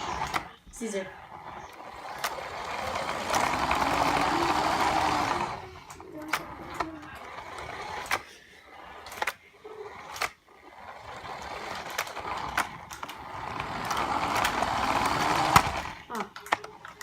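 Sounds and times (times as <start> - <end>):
toy car motor whirring: 0.0 - 17.0
wheels rolling over floor: 0.0 - 17.0.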